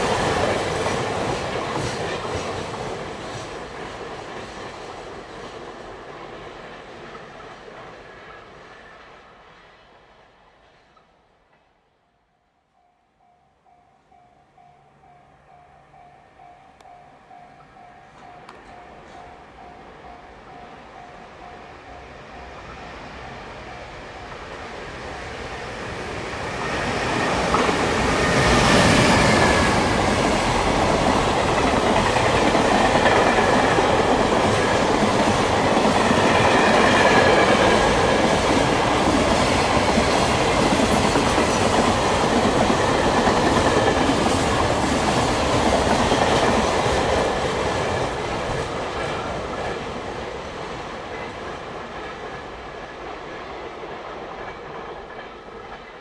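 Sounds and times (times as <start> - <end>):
electric locomotive passing: 0.0 - 11.7, 12.8 - 56.0.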